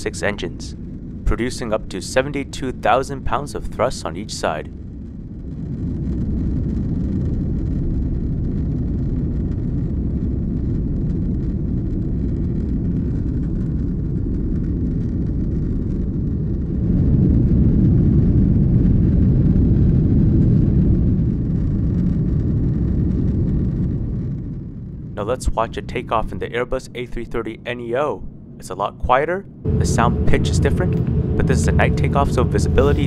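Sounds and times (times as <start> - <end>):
jet engines rumbling in cabin: 0.0 - 33.0.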